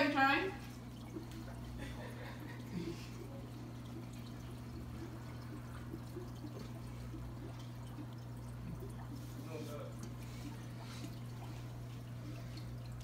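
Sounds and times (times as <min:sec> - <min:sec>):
aquarium water bubbling and trickling: 0:00.0 - 0:13.0
low steady hum: 0:00.0 - 0:13.0.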